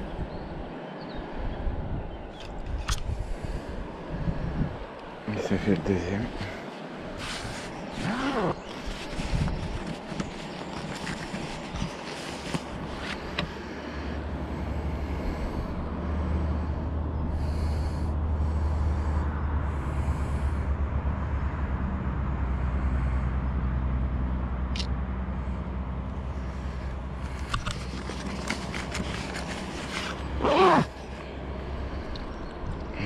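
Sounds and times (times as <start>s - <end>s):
wind buffeting microphone: 0.0s - 23.7s, 26.6s - 33.0s.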